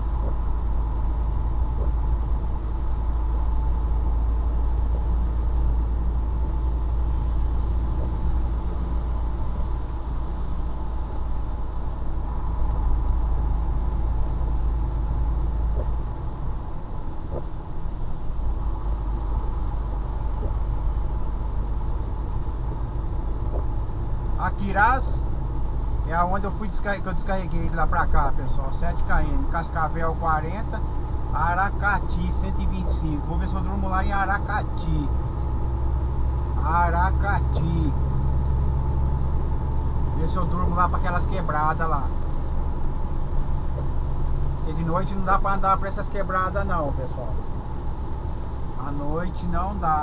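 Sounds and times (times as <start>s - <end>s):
truck engine and road rumble: 0.0s - 50.0s.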